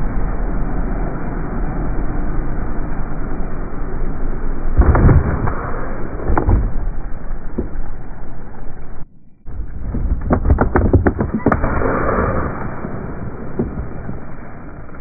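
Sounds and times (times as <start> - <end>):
truck engine noise: 0.0 - 15.0.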